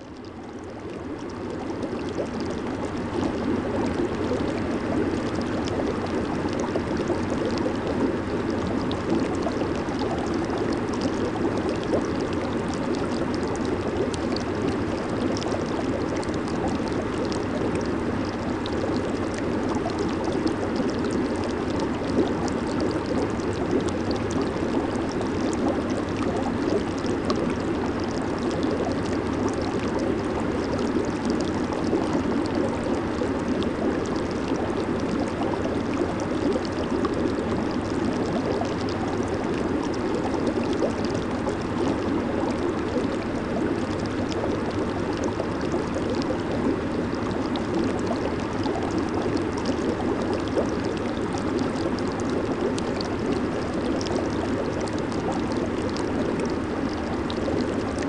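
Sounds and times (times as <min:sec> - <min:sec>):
hot tub jets bubbling: 0:00.0 - 0:58.0.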